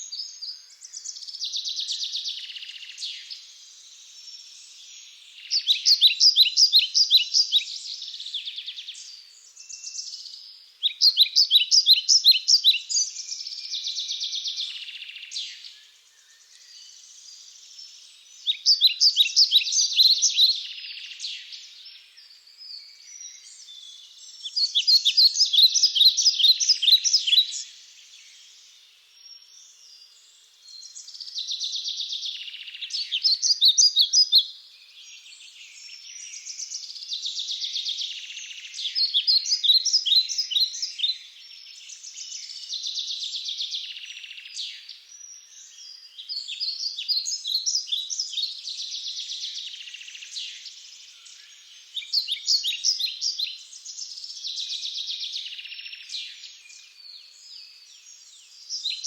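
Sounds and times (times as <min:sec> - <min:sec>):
faint bird calls and chatter: 0:00.0 - 0:59.0
songbird trilled song: 0:00.0 - 0:59.0.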